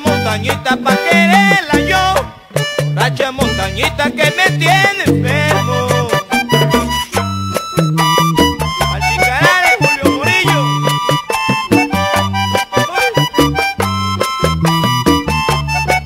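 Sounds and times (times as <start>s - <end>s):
accordion melody: 0.0s - 16.0s
bass line: 0.0s - 16.0s
percussion rhythm: 0.0s - 16.0s.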